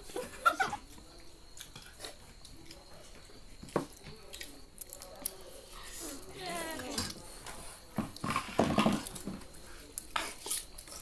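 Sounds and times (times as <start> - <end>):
chewing: 0.8 - 11.0.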